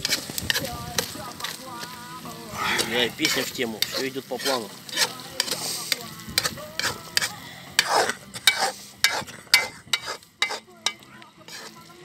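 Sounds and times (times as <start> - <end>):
spoon scraping and knocking in pot: 0.0 - 1.6, 2.7 - 11.9
faint sizzle of oil: 0.0 - 12.0.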